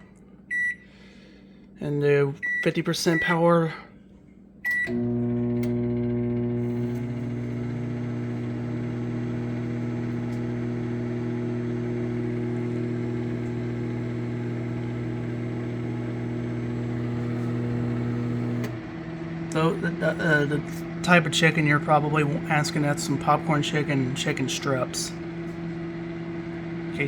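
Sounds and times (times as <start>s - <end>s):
microwave fan noise: 4.6s - 27.0s
microwave oven humming: 4.6s - 27.0s.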